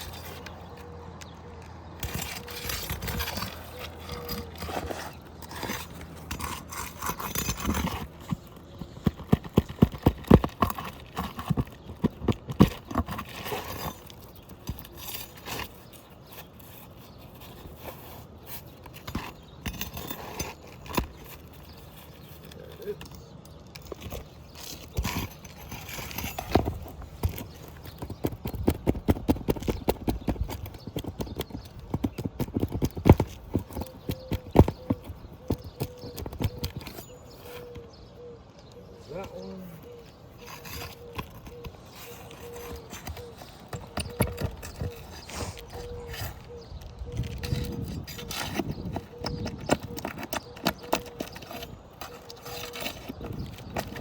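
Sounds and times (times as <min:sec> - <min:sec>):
hand tools scraping on shingles: 0:00.0 - 0:38.0, 0:39.1 - 0:54.0.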